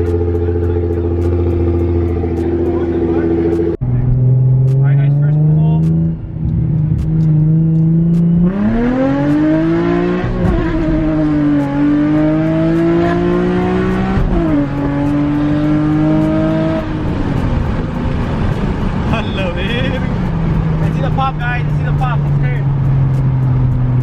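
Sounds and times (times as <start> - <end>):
car engine revving under full throttle: 0.0 - 24.0.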